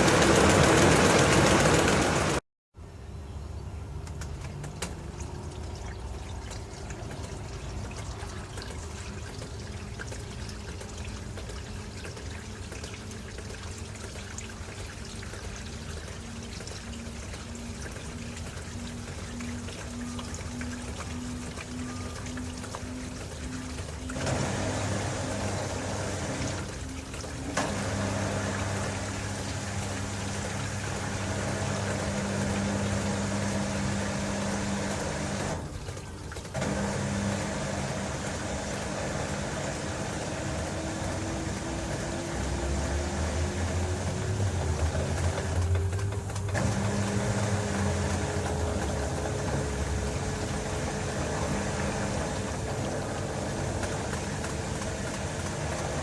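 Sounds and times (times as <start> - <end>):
washing machine motor and drum hum: 0.0 - 56.0.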